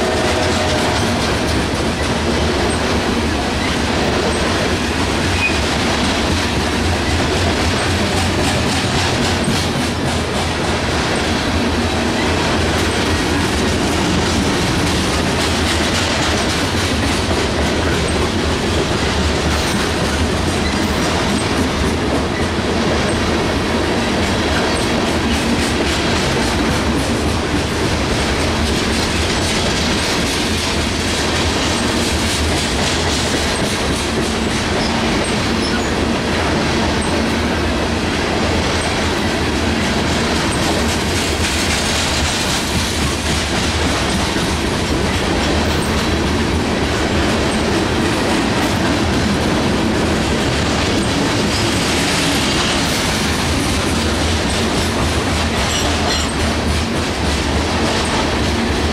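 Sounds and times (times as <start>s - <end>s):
steel wheels rumbling on rail: 0.0s - 58.9s
wheels clacking over rail joints: 0.0s - 58.9s.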